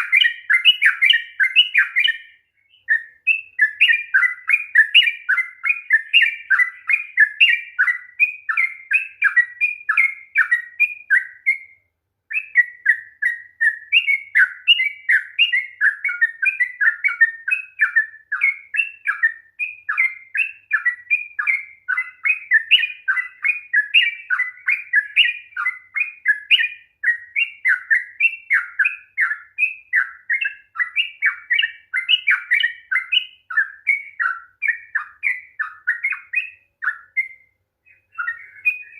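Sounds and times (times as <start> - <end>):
bird singing chirping notes: 0.0 - 38.9.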